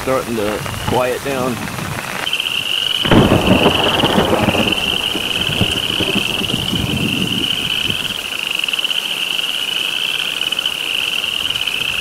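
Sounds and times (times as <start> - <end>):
frogs peeping in chorus: 2.2 - 12.0.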